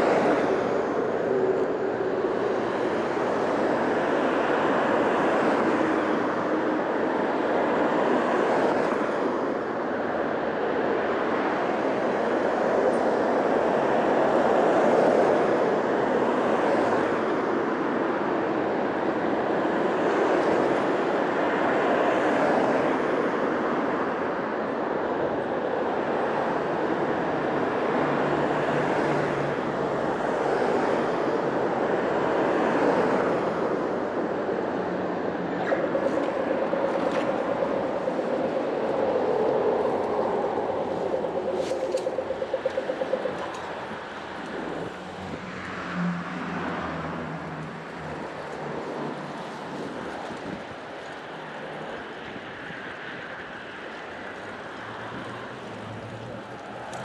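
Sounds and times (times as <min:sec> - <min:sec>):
bicycle road noise: 0:00.0 - 0:57.0
rushing wind: 0:00.0 - 0:57.0.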